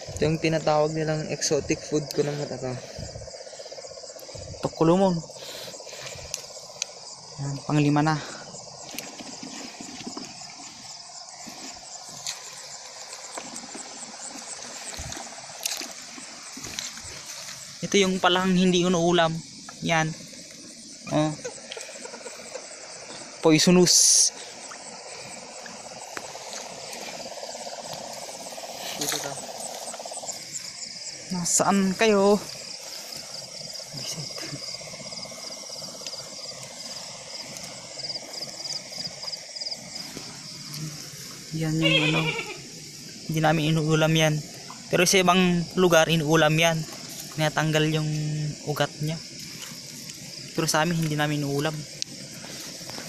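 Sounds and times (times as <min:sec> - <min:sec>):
insects chirping: 0:00.0 - 0:53.0
low fast insect trill: 0:00.0 - 0:53.0.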